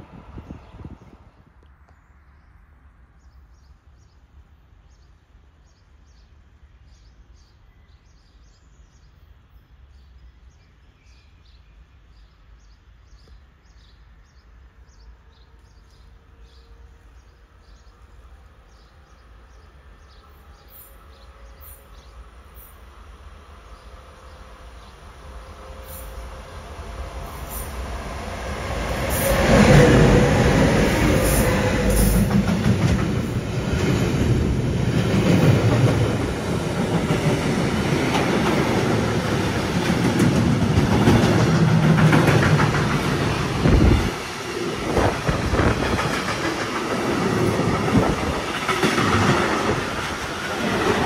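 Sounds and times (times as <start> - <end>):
train approaching: 0.0 - 1.6, 9.2 - 51.0.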